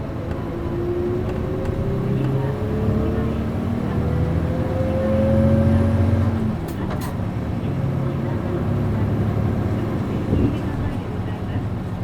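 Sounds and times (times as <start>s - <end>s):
bus diesel engine accelerating: 0.0s - 12.0s.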